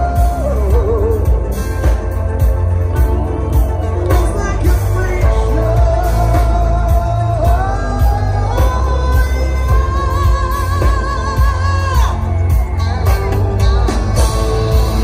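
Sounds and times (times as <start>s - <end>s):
heavy metal band playing live: 0.0s - 15.0s
person singing: 0.0s - 15.0s.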